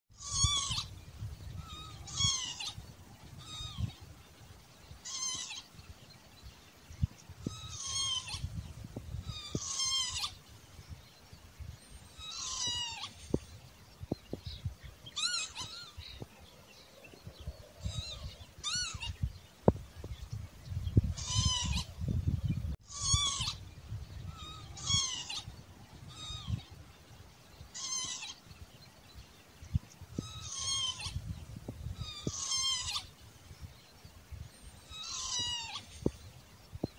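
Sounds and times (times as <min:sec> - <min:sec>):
lapwing calling: 0:00.2 - 0:04.1, 0:04.9 - 0:05.9, 0:07.0 - 0:10.6, 0:11.8 - 0:26.9, 0:27.5 - 0:28.6, 0:29.7 - 0:33.9, 0:34.5 - 0:36.9.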